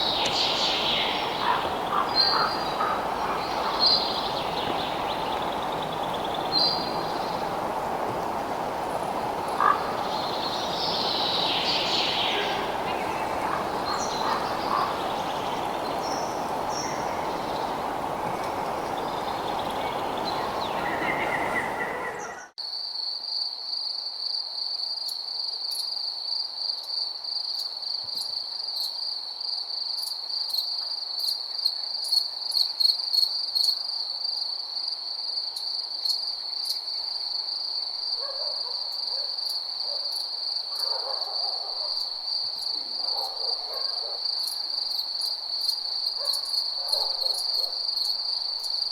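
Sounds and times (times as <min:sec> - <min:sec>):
hiss-like background: 0:00.0 - 0:48.9.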